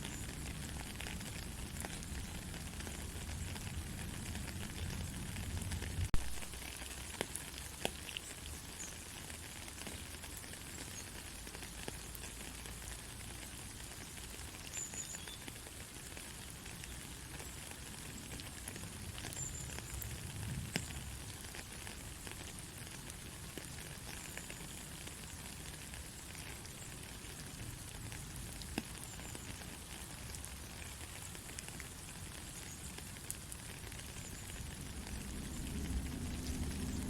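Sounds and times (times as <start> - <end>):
soft steady rain: 0.0 - 37.0.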